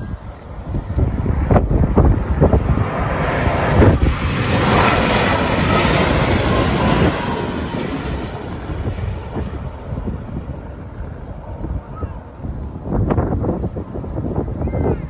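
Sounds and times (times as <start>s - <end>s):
jet engine rush: 0.0s - 15.0s
wind buffeting microphone: 0.0s - 15.0s.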